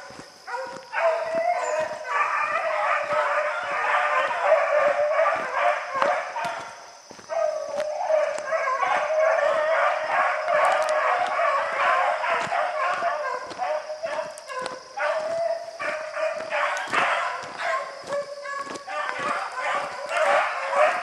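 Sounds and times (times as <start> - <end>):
pack of hounds baying: 0.0 - 21.0.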